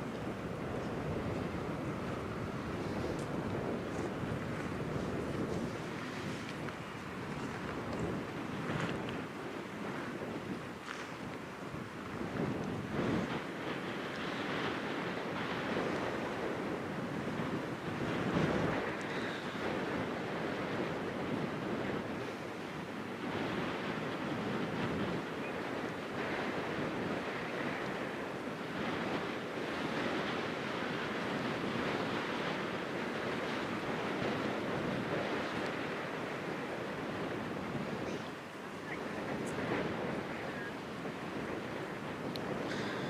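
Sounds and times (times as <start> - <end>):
small waves washing on shore: 0.0 - 43.0
wind buffeting microphone: 0.0 - 43.0.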